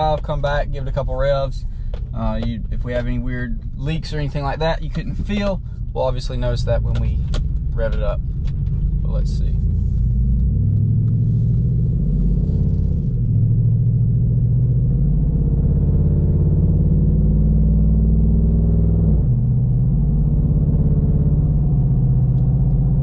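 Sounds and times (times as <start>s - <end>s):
truck engine accelerating: 0.0s - 23.0s.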